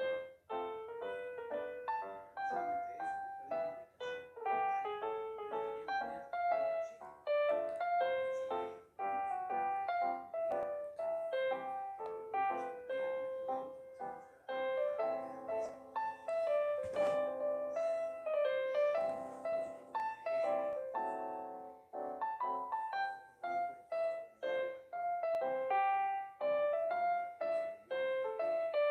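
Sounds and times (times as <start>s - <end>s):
piano melody: 0.0s - 28.9s.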